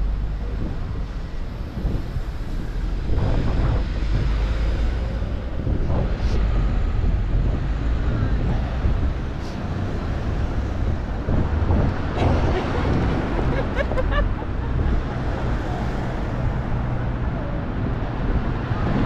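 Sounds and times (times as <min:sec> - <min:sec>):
road traffic passing: 0:00.0 - 0:19.0
wind rumbling on microphone: 0:00.0 - 0:19.0.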